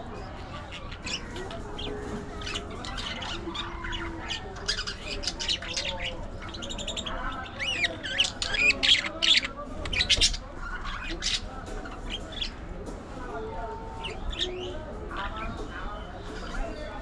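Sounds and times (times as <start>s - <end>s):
budgerigars chattering and squawking: 0.1s - 12.7s, 13.9s - 17.0s.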